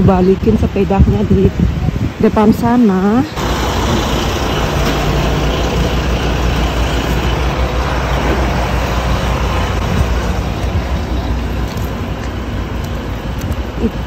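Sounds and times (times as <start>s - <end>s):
bus engine rumble: 0.0s - 14.0s
traffic noise: 0.0s - 14.0s.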